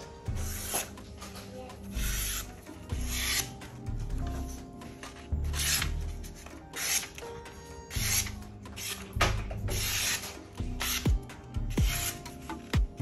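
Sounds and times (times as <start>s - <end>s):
quiet background music: 0.0s - 13.0s.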